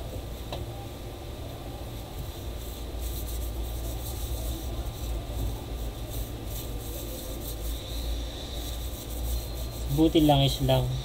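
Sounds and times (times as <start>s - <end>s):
steady low hum: 0.0s - 11.0s
tissue rubbing scratchily: 1.9s - 11.0s.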